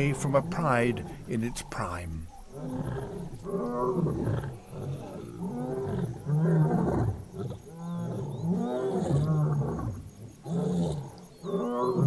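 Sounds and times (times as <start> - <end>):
lions roaring: 0.0 - 12.0.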